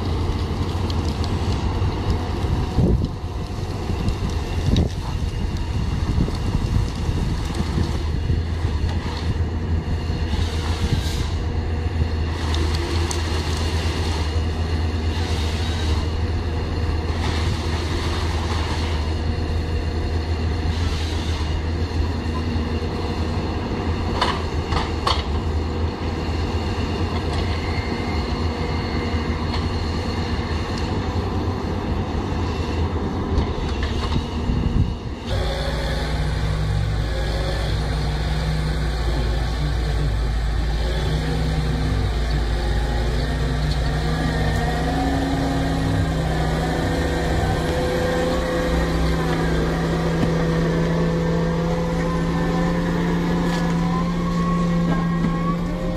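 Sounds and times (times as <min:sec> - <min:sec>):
excavator diesel engine running: 0:00.0 - 0:55.9
forwarder diesel engine humming: 0:00.0 - 0:55.9.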